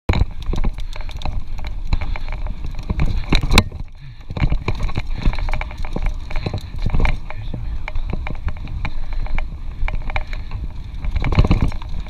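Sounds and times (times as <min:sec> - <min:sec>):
mountain bike rattling on dirt trail: 0:00.1 - 0:12.0
wind rumble on microphone: 0:00.1 - 0:12.0.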